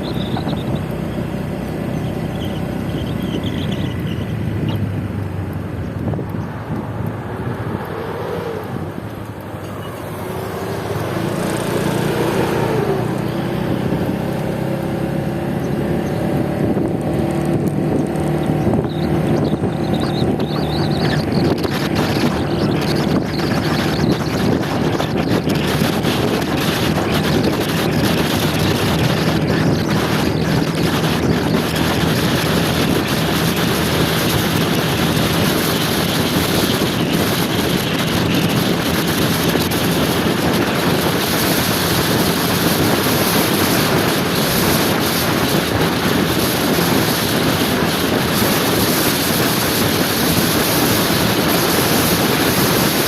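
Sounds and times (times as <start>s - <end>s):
wind buffeting microphone: 0.0s - 53.0s
motor scooter engine running: 8.7s - 53.0s.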